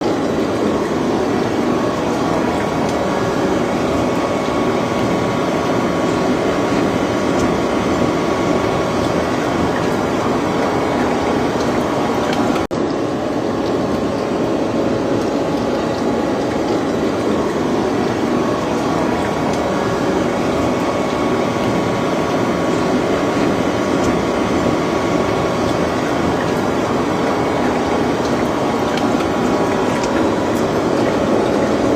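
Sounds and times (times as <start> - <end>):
gear-cutting machine running: 0.0 - 31.9.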